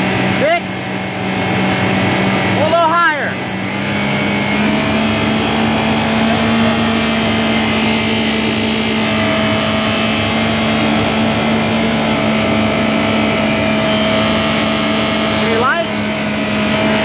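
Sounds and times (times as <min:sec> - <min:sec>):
watercraft engine at high revs: 0:00.0 - 0:17.0.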